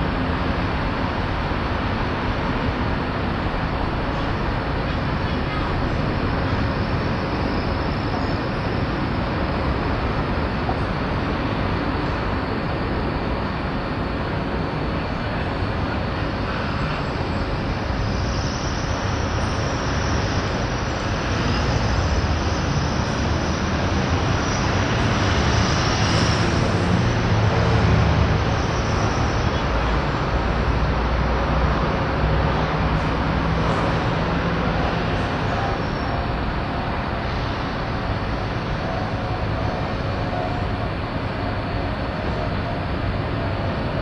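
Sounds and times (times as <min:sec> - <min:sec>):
railway noise: 0:00.0 - 0:44.0
road traffic rumble: 0:00.0 - 0:44.0.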